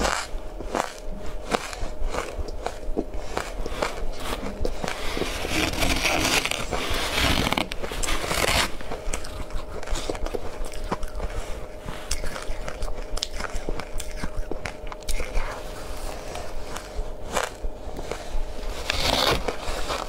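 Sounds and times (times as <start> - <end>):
ice crunching while chewed: 0.0 - 20.0.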